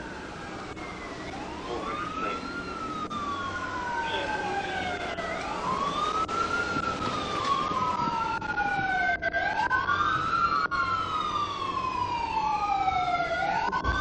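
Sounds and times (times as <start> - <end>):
sirens wailing: 0.0 - 14.0.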